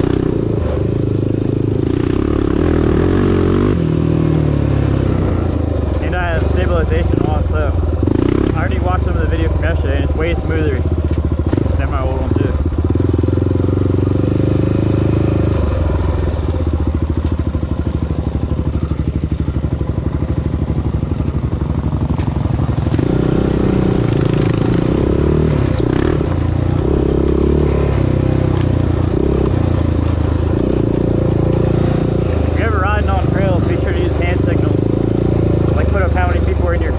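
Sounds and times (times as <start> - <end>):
quad bike engine revving: 0.0 - 36.9.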